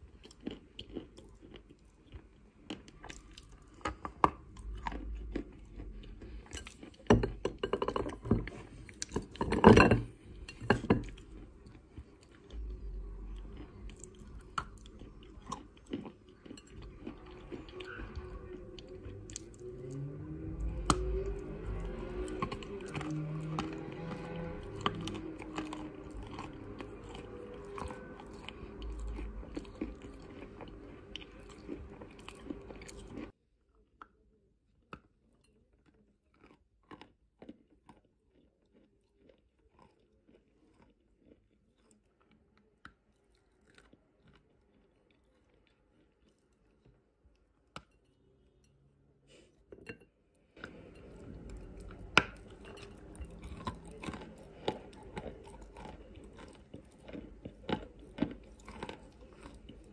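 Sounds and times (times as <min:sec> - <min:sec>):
crunchy chewing: 0:00.0 - 0:33.4, 0:35.4 - 0:47.8, 0:50.6 - 0:59.9.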